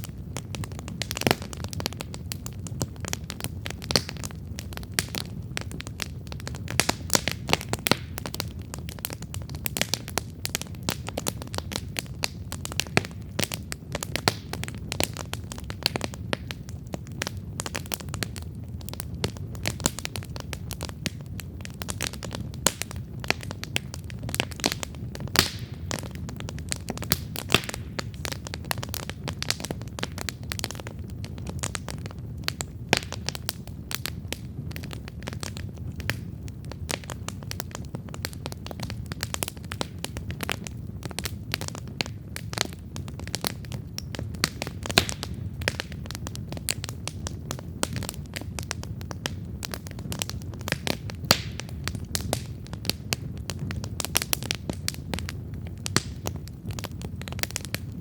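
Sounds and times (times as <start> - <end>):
campfire crackling and popping: 0.0 - 58.0
flames rushing: 0.1 - 58.0.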